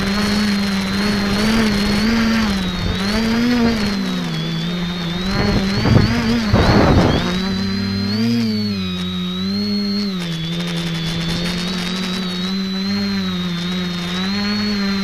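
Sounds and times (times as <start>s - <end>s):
drone motors humming and whining: 0.0s - 15.0s.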